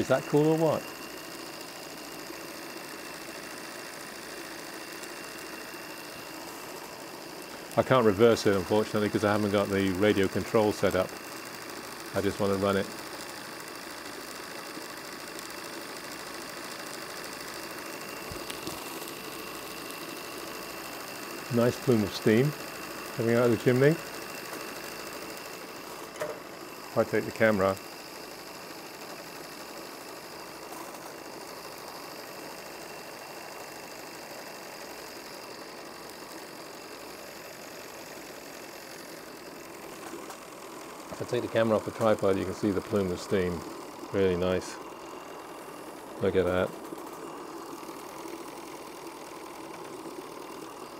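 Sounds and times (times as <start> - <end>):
model steam engine chattering: 0.0 - 50.9
steam hissing: 0.0 - 50.9.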